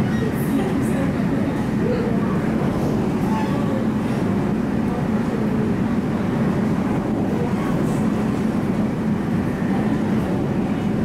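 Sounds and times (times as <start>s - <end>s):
train running rumble and hum: 0.0s - 11.0s.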